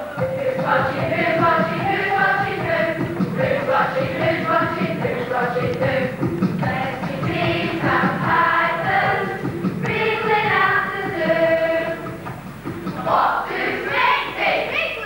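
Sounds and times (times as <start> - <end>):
young voices singing together: 0.0 - 15.0.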